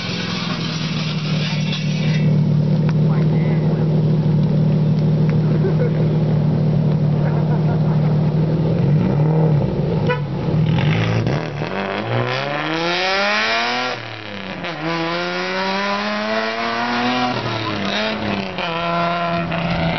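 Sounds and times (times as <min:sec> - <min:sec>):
loud car exhaust revving: 0:00.0 - 0:19.9.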